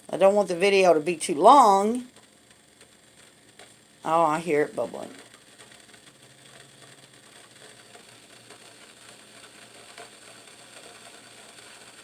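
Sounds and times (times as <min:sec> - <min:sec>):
water bubbling in kettle: 0:00.0 - 0:12.0.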